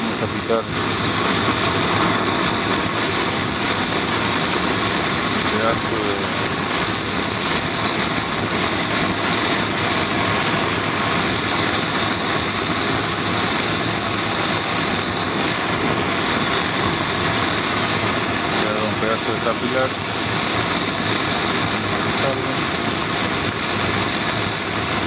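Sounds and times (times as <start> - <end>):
torch flame hissing: 0.0 - 25.0.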